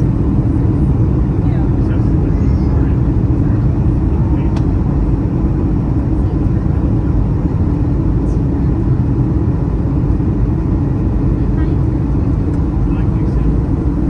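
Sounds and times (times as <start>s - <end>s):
airliner cabin engine roar: 0.0s - 14.0s.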